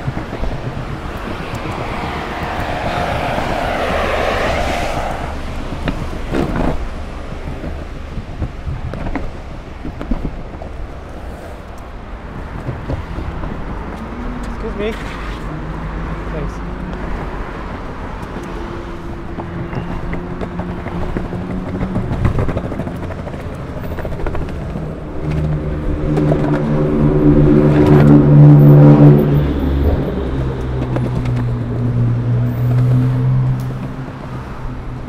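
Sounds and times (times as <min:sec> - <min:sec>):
vehicle engine: 0:00.0 - 0:09.8, 0:10.6 - 0:35.0
longboard wheels rolling on pavement: 0:00.0 - 0:35.0
road traffic: 0:00.0 - 0:35.0.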